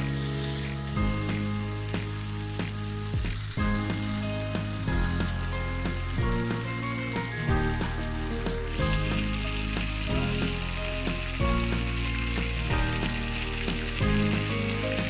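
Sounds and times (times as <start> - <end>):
background music with bass: 0.0 - 15.0
food sizzling in oil: 0.0 - 15.0.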